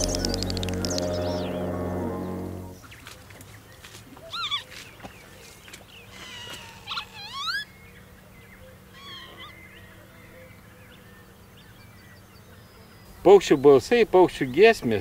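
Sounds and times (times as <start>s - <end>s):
wild birds calling: 0.0s - 14.5s.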